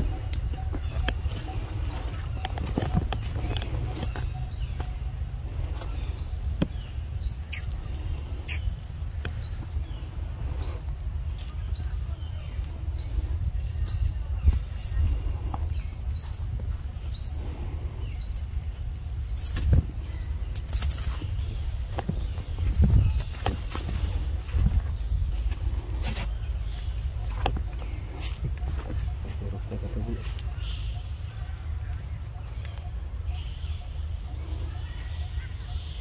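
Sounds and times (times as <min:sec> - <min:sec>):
bird chirping: 0:00.0 - 0:36.0.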